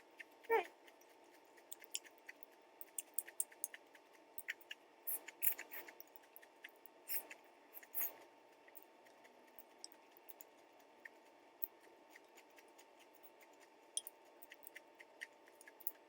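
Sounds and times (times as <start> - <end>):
wet mouth clicks chewing: 0.0 - 16.0.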